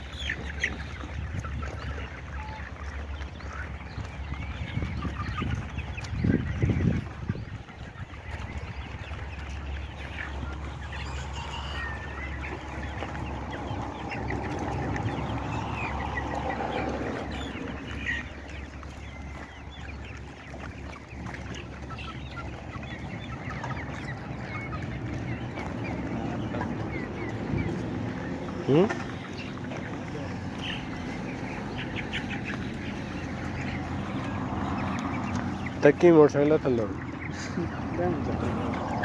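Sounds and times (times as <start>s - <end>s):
hens clucking: 0.0s - 39.0s.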